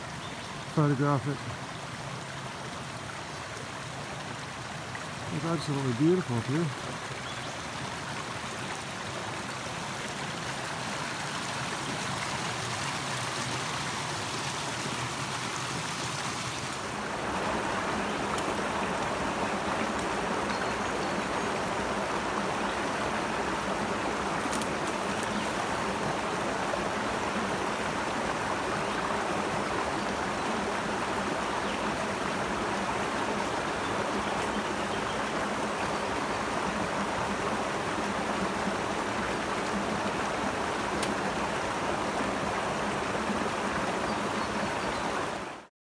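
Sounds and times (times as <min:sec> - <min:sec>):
creek water running over rocks: 0:00.0 - 0:45.7.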